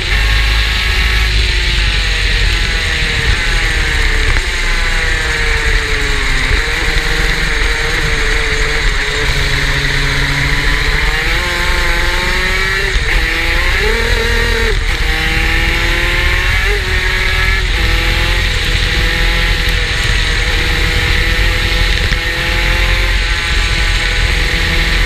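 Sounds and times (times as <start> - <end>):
steady rushing noise: 0.0 - 25.0
two-stroke racing engine revving: 0.0 - 25.0.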